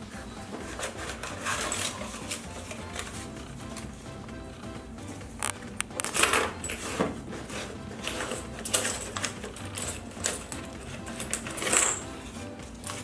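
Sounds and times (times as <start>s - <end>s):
low steady hum: 0.0s - 13.0s
rustles and clicks of handling: 0.1s - 3.9s, 5.0s - 13.0s.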